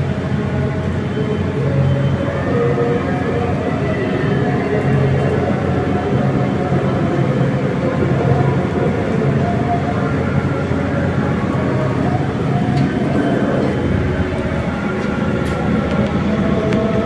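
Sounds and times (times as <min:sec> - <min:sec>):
electric train rolling: 0:00.0 - 0:17.0.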